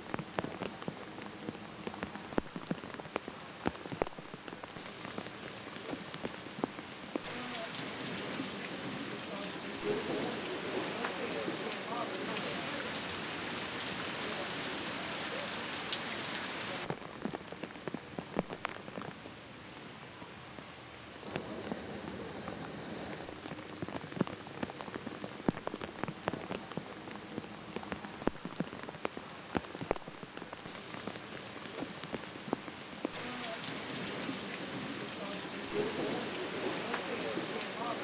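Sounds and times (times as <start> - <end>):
rain hiss: 0.0 - 38.0
raindrop hits: 0.0 - 38.0.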